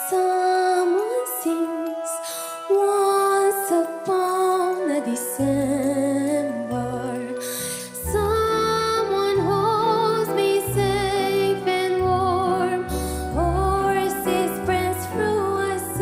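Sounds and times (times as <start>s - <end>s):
soft accompaniment: 0.0s - 16.0s.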